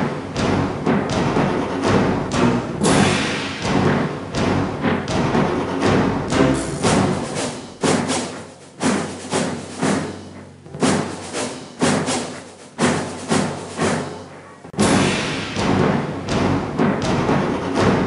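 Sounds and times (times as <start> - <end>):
background music: 0.0 - 18.0
heavy drum hits: 0.0 - 18.0.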